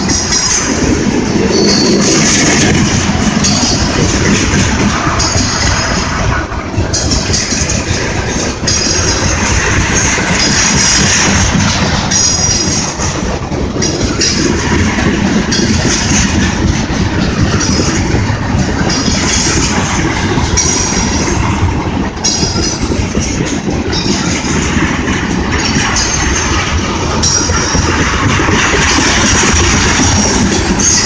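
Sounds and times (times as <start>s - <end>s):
freight train rumbling and rattling: 0.0s - 31.0s.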